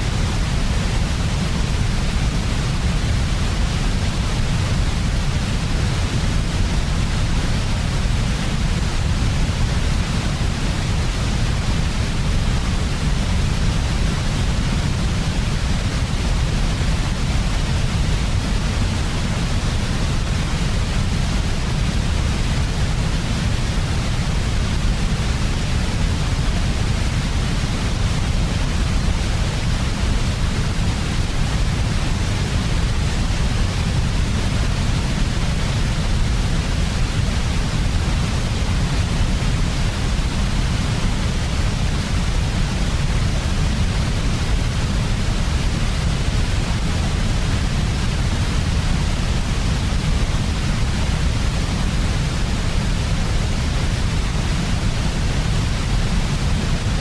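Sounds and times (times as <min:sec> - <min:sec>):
synthetic white noise: 0:00.0 - 0:57.0.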